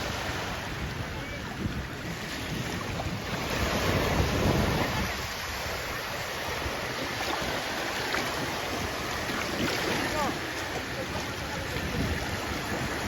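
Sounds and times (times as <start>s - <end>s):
sea waves washing onto shore: 0.0s - 13.0s
wind on microphone: 0.0s - 13.0s.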